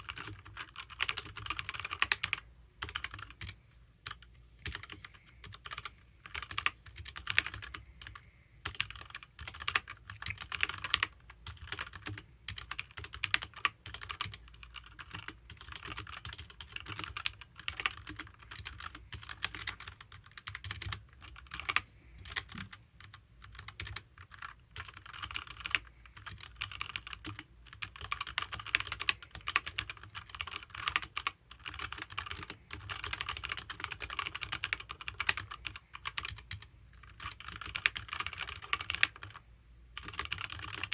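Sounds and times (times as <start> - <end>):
mechanical keyboard typing: 0.0 - 39.4, 40.0 - 40.9.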